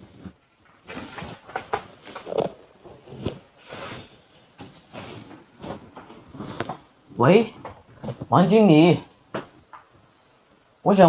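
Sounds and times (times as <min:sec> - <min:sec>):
rustling and handling noises: 0:00.0 - 0:10.6.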